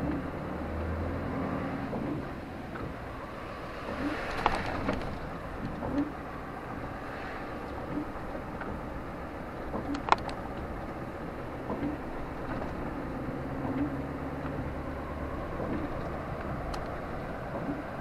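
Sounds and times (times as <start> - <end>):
vehicles passing on street: 0.0 - 18.0.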